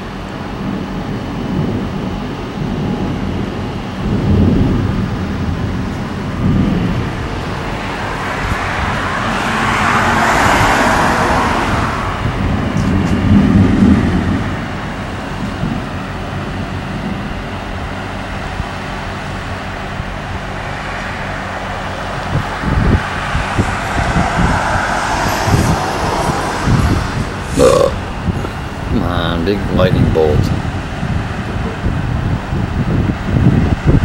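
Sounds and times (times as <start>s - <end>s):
thunder rumbling: 0.0s - 34.0s
car passing on road: 4.0s - 34.0s.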